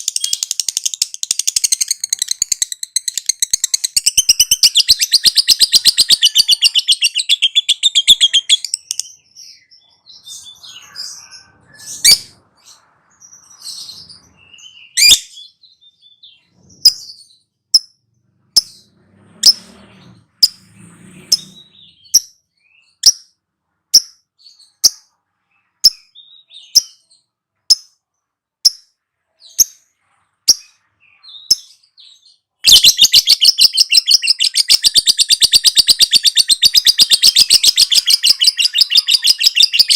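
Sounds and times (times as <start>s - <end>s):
bird sharp chirps: 0.0s - 39.9s.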